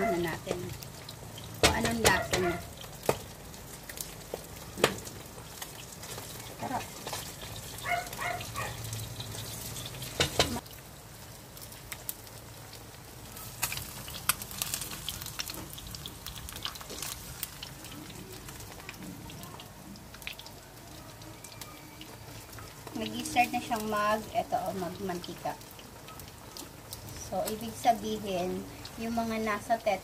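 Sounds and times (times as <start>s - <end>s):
fish sizzling in hot oil: 0.0s - 30.0s.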